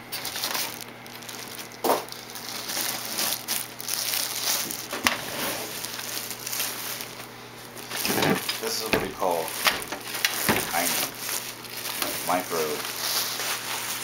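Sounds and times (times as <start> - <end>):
plastic wrap crinkling: 0.0 - 14.0.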